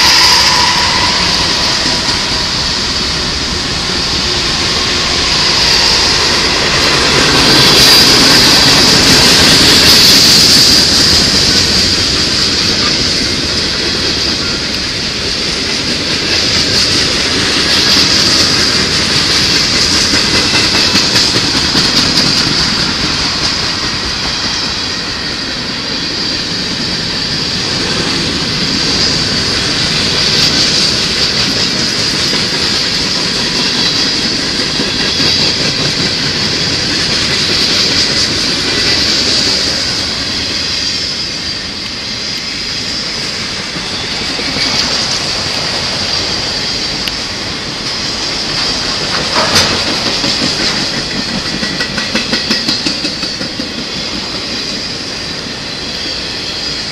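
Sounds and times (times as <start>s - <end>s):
high hiss: 0.0s - 56.9s
train wheels clattering on rails: 0.0s - 56.9s.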